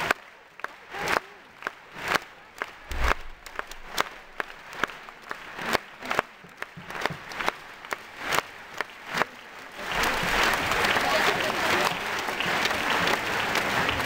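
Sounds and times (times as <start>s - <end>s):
murmur of arena crowd: 0.0s - 14.0s
single hand claps: 0.0s - 14.0s.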